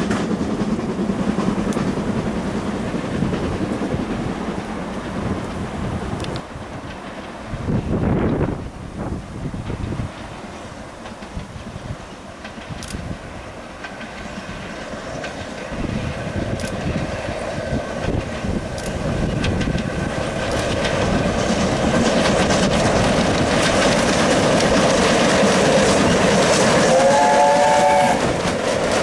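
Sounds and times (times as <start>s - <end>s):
steam train passing: 0.0s - 29.0s.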